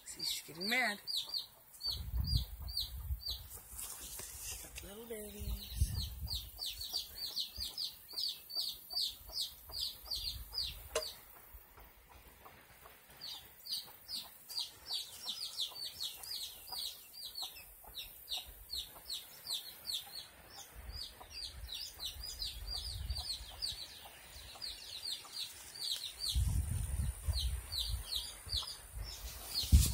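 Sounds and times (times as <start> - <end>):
baby chicks peeping: 0.4 - 3.7, 4.9 - 11.4, 12.8 - 29.9.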